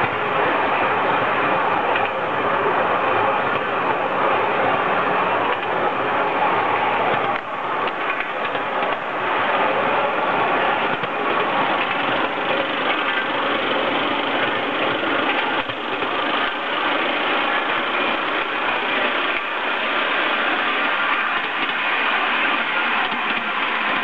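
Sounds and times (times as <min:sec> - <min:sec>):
model steam locomotive running: 0:00.0 - 0:24.0.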